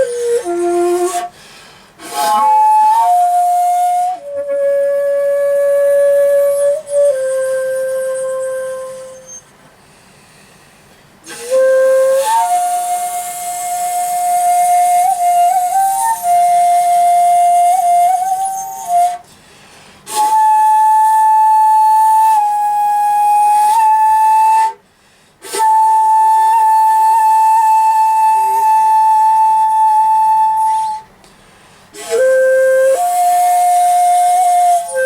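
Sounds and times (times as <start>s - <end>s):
shakuhachi long held notes: 0.0s - 19.4s, 20.0s - 31.3s, 31.9s - 35.0s.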